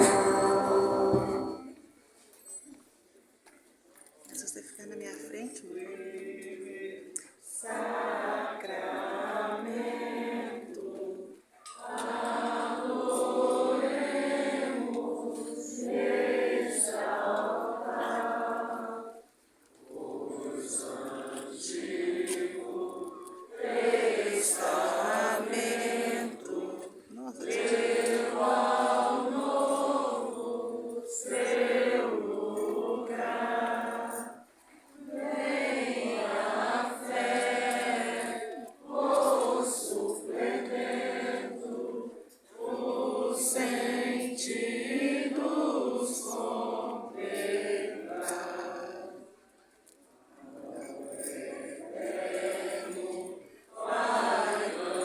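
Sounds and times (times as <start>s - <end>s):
voices singing a chant-like hymn: 0.0s - 1.8s, 5.6s - 49.4s, 50.4s - 55.0s.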